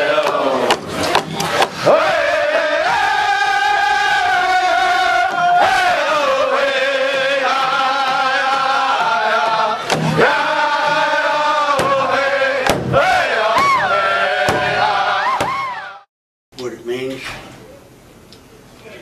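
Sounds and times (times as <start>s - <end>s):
chant-like background music: 0.0s - 15.3s.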